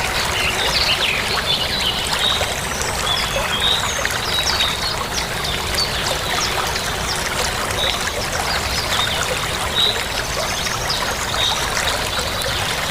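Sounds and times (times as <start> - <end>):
water trickling and splashing: 0.0 - 12.9.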